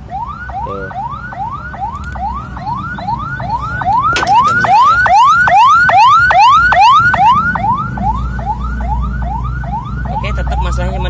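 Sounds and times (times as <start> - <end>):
ambulance siren yelping: 0.0 - 11.0.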